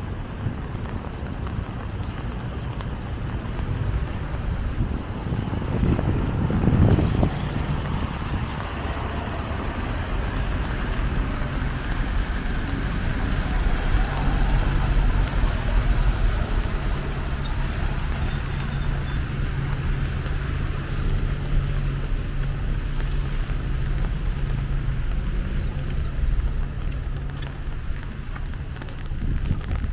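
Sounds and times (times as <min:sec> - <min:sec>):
low engine hum: 0:00.0 - 0:29.9
rumble of passing vehicles: 0:00.0 - 0:29.9
tyres hissing on wet road: 0:00.1 - 0:29.9.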